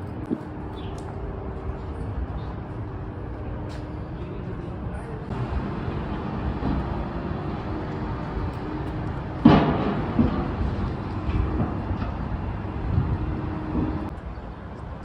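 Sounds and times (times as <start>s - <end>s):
rumble of traffic: 0.0s - 15.0s.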